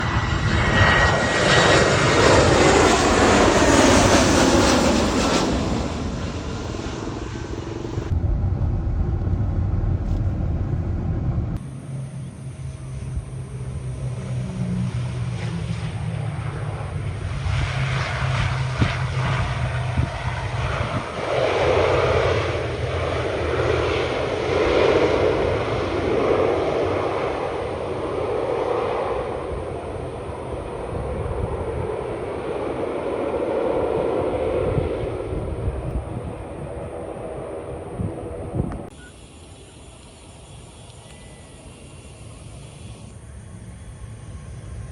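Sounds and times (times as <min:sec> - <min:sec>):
aircraft engine rumble: 0:00.0 - 0:44.9
aircraft passing: 0:00.0 - 0:44.9
low hum: 0:00.0 - 0:44.9.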